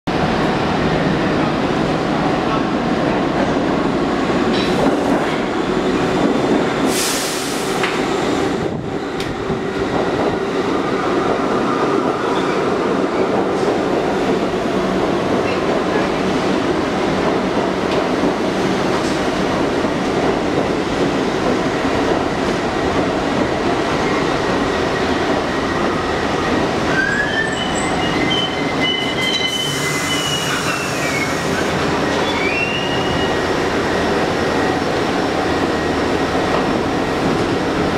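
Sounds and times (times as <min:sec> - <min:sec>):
train wheels rumbling on rail: 0:00.1 - 0:37.9.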